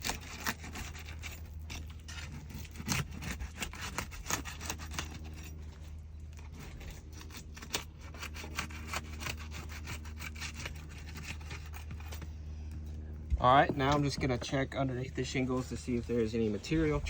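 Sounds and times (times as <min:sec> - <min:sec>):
low hum: 0:00.0 - 0:17.0
pry bar scraping shingles: 0:00.0 - 0:17.0.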